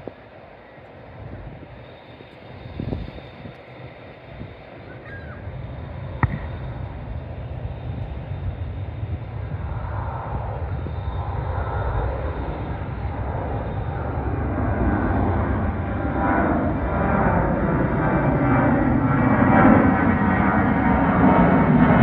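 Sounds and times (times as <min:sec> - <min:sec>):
airliner engines rumbling: 0:00.0 - 0:22.0.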